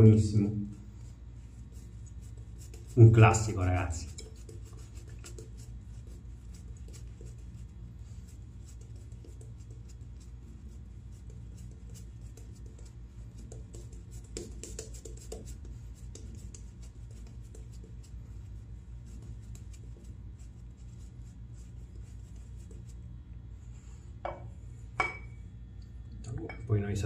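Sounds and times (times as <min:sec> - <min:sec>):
faint low hum: 0:00.0 - 0:27.0
shaving brush strokes on stubble: 0:00.8 - 0:23.1.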